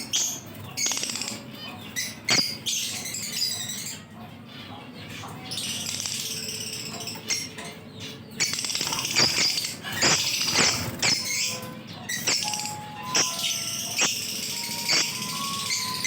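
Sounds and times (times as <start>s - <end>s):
lovebirds chattering: 0.0s - 16.0s.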